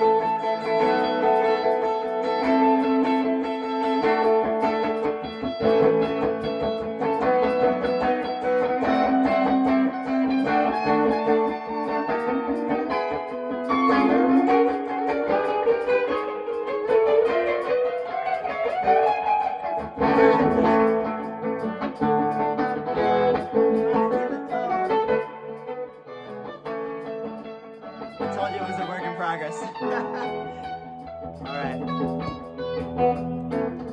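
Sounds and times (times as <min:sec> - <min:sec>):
electric guitar with bent notes: 0:00.0 - 0:33.9.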